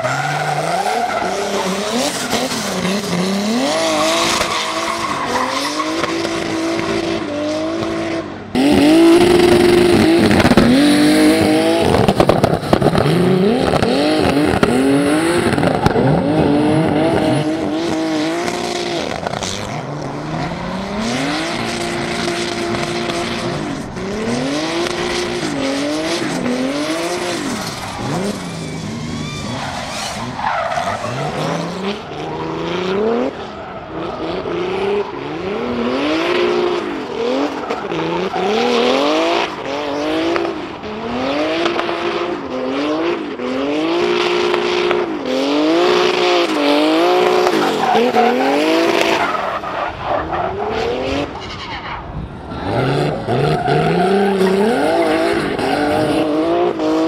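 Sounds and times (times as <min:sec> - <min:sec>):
car engine revving hard: 0:00.0 - 0:29.6, 0:30.2 - 0:49.8, 0:52.6 - 0:57.0
tyres skidding and squealing: 0:00.0 - 0:57.0.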